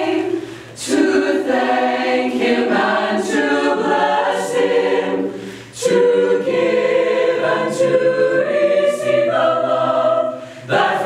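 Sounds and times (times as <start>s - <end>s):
choir singing a cappella: 0.0s - 11.0s.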